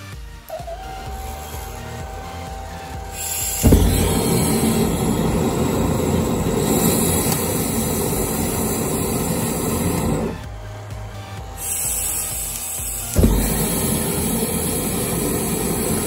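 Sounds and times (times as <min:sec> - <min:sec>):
jet engine ignition whoomp: 0:00.5 - 0:16.0
jet engine flame rushing: 0:01.4 - 0:16.0.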